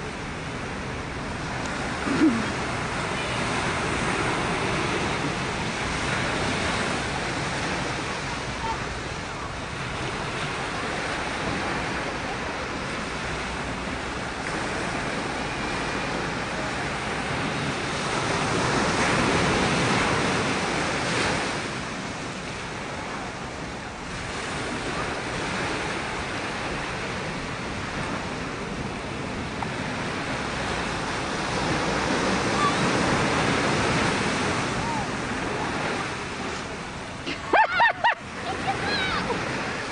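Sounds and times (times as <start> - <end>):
surf breaking in shallow water: 0.0 - 39.9.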